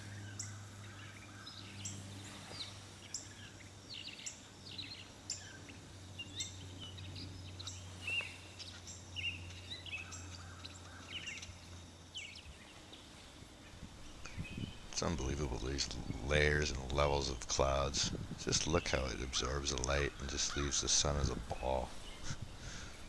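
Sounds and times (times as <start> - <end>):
small birds chirping: 0.0 - 23.0
steady low hum: 0.0 - 23.0.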